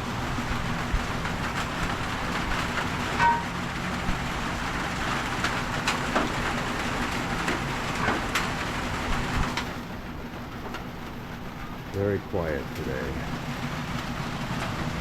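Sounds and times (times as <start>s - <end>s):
low engine hum: 0.0s - 15.0s
rain hiss: 0.0s - 15.0s.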